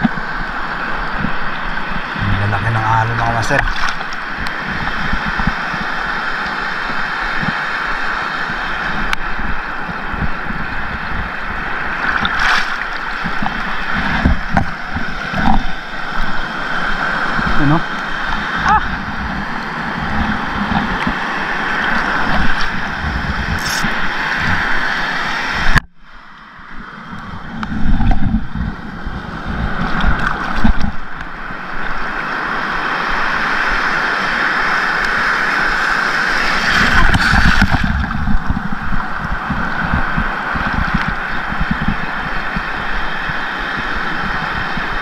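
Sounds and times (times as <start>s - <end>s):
water sloshing and gurgling: 0.0s - 45.0s.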